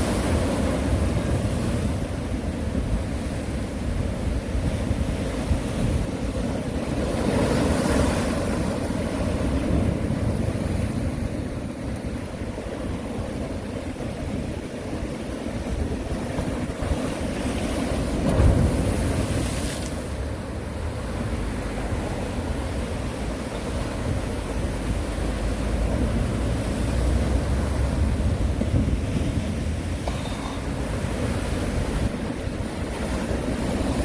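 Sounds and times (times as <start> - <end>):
sea waves washing ashore: 0.0 - 34.0
wind buffeting microphone: 0.0 - 34.0.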